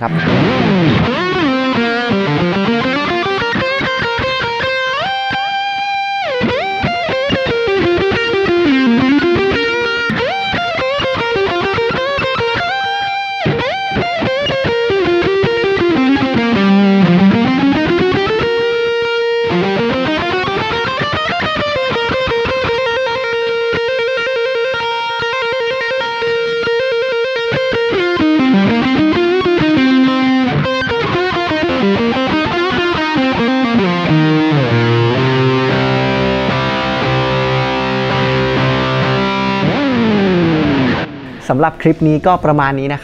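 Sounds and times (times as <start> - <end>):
electric guitar chords: 0.0 - 43.0
electric guitar notes: 0.0 - 43.0.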